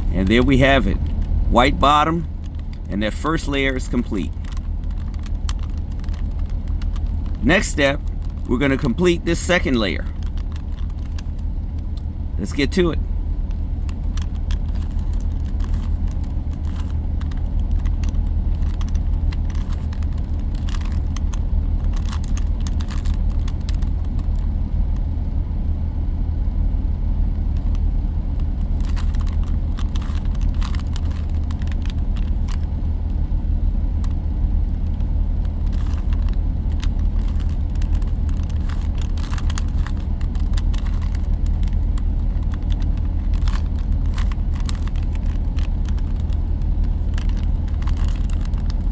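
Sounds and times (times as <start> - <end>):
plastic puzzle cube clicking: 0.0 - 12.1, 13.5 - 24.5, 28.4 - 32.7, 34.8 - 48.9
loud low hum: 0.0 - 48.9.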